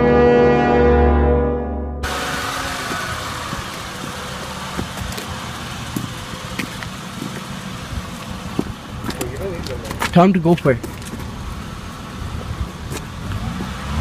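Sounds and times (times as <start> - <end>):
car engine running: 2.0 - 14.0
road noise: 2.0 - 14.0.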